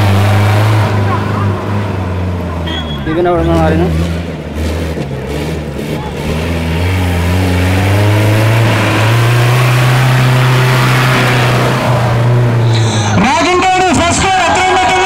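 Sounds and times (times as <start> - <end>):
jeep engine revving hard: 0.0 - 2.5, 3.2 - 13.3.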